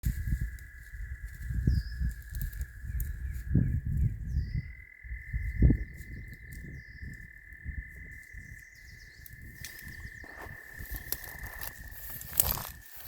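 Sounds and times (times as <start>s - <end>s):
frog trilling: 0.6s - 13.0s.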